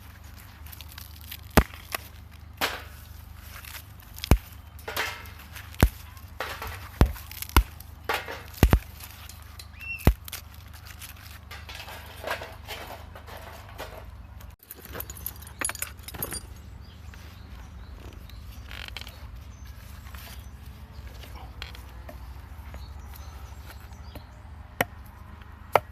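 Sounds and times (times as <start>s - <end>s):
rustling and handling noise: 0.0s - 23.8s.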